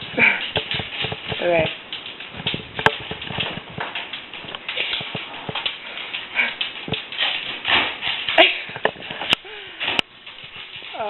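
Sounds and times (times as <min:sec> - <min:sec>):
dog paws and ball knocking: 0:00.2 - 0:09.3.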